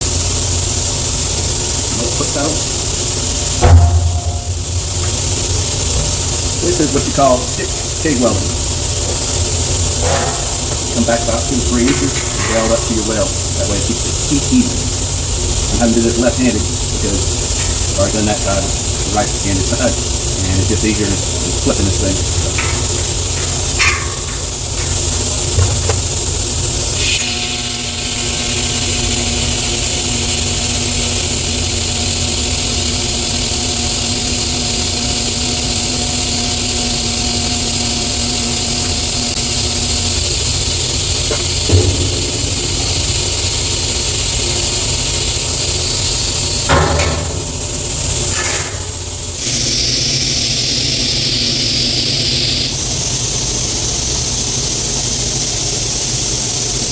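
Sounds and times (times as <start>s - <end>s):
welding arc hissing: 0.0s - 56.9s.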